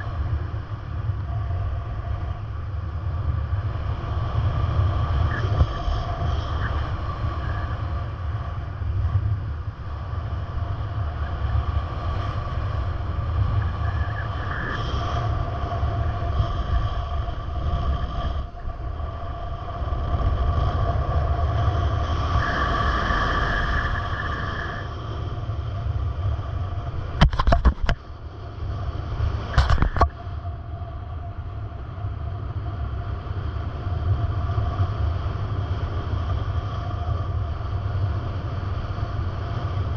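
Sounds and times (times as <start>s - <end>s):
faint tonal hum: 0.0s - 39.9s
vehicle interior rumble: 0.0s - 39.9s.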